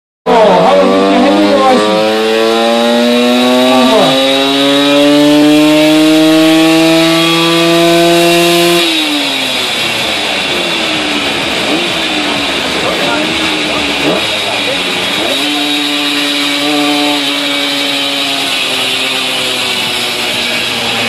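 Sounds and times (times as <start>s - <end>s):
two-stroke moped engine revving: 0.3s - 21.0s.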